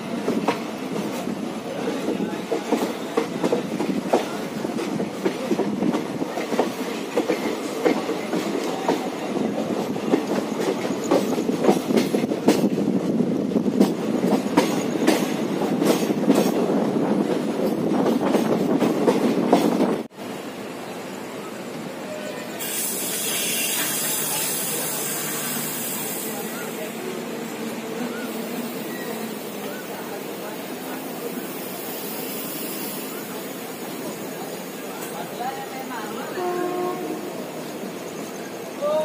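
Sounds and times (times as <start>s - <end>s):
train wheels clickety-clack on rails: 0.0s - 20.1s, 22.6s - 39.0s.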